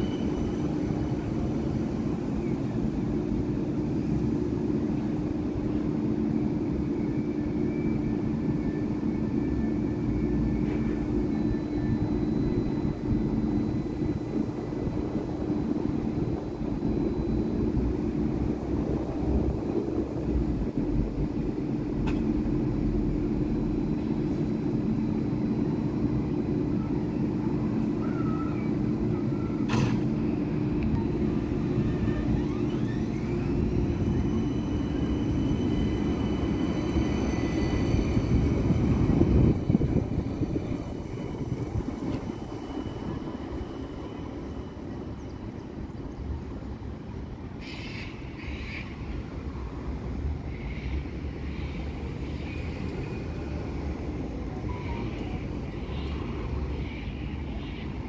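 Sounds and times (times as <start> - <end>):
tram humming: 0.0 - 58.0
tram motor whine: 0.0 - 58.0.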